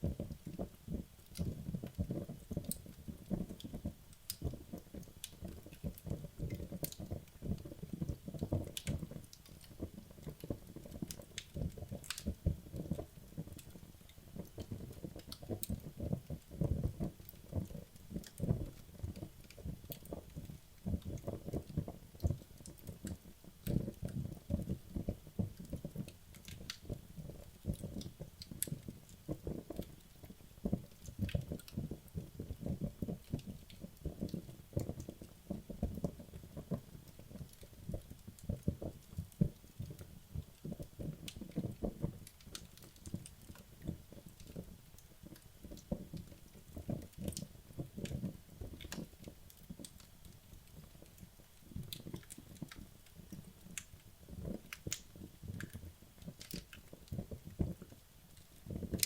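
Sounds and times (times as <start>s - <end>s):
logs crackling and popping: 0.0s - 59.0s
low fluttering of flames: 0.0s - 59.0s.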